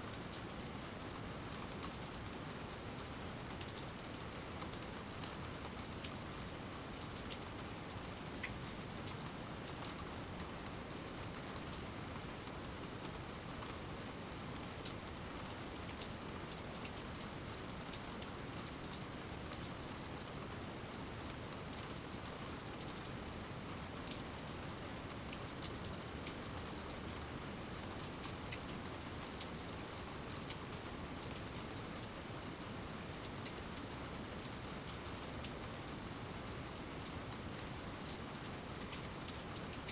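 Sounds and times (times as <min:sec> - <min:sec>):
steady rain falling: 0:00.0 - 0:39.9
raindrops ticking on surfaces: 0:00.1 - 0:39.9.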